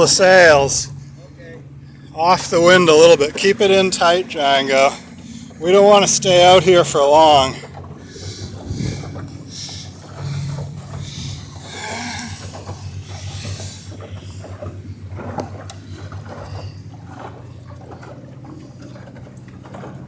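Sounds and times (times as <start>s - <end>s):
steady low drone: 0.0s - 20.0s
water lapping against boat hull: 0.0s - 20.0s.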